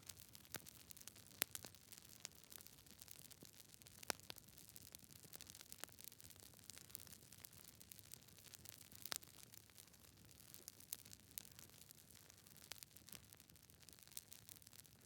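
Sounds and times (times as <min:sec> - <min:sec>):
campfire crackling: 0:00.0 - 0:15.0
fire popping: 0:00.0 - 0:15.0.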